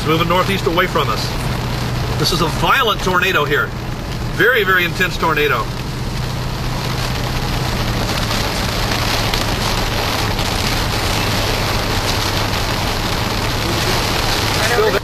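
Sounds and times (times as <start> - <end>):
car cabin low hum: 0.0 - 15.0
heavy rain on car windshield: 0.0 - 15.0.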